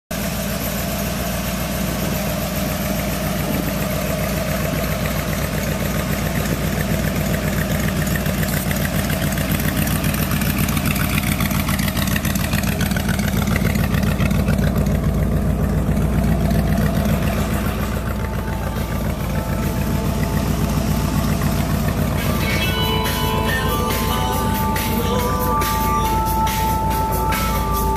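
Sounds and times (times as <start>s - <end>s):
pickup engine idling: 0.1s - 27.9s.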